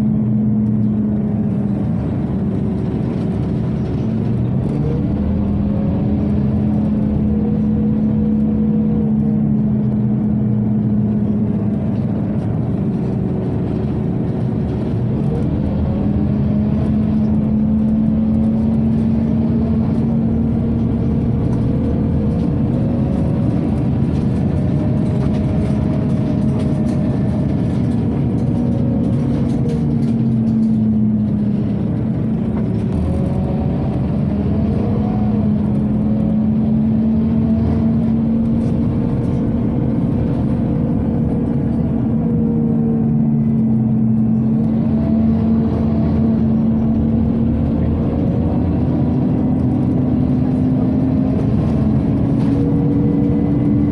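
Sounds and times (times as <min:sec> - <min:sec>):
bus engine accelerating and slowing: 0:00.0 - 0:53.9.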